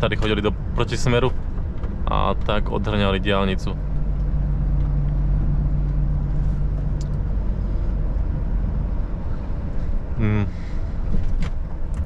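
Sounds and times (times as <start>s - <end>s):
road noise: 0.0s - 12.0s
truck diesel engine driving: 0.0s - 12.0s.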